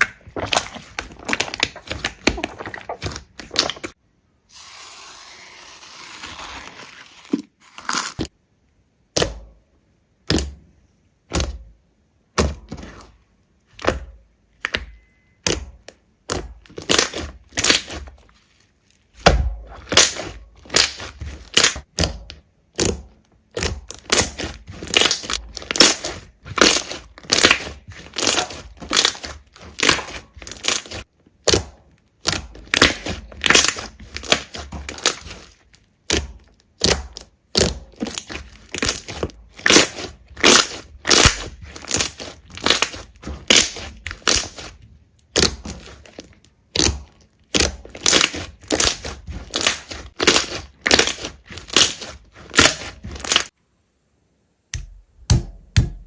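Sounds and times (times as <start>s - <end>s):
hands squishing slime: 0.0s - 4.0s, 12.3s - 53.6s.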